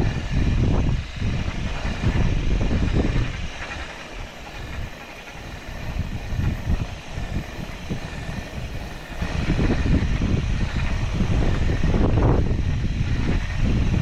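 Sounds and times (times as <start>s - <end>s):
e-bike motor rumbling: 0.0s - 14.0s.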